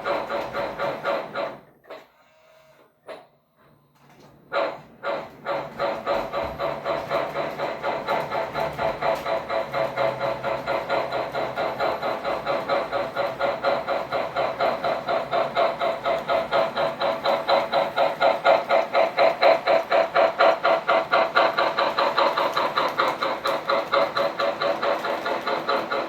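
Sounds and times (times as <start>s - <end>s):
model steam locomotive chuffing: 0.0s - 26.0s.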